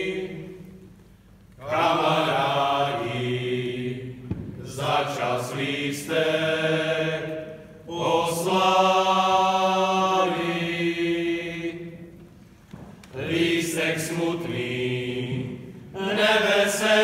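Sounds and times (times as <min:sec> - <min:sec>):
men's choir singing a cappella: 0:00.0 - 0:00.8, 0:01.6 - 0:12.2, 0:13.1 - 0:17.0.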